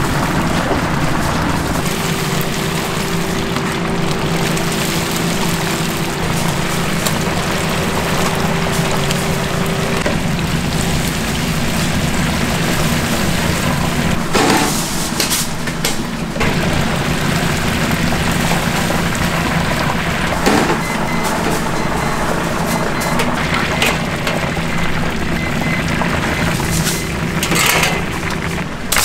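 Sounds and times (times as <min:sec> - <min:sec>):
chicken sizzling in frying oil: 0:00.0 - 0:29.0.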